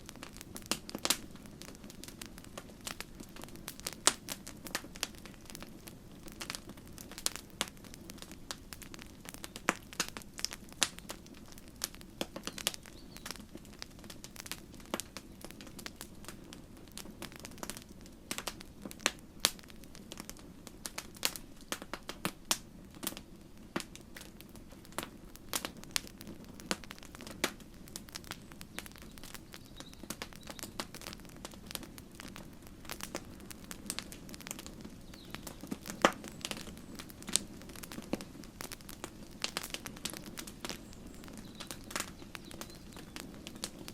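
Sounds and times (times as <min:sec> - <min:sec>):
low rush of flames: 0:00.0 - 0:43.9
wood crackling and popping: 0:00.0 - 0:43.9.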